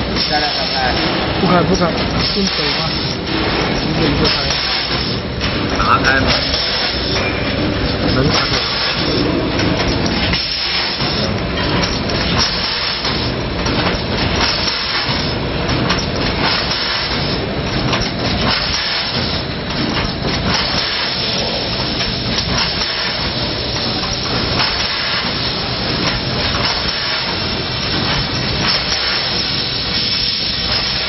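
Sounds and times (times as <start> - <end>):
machine hissing: 0.0 - 31.0
packing machine clattering: 0.0 - 31.0.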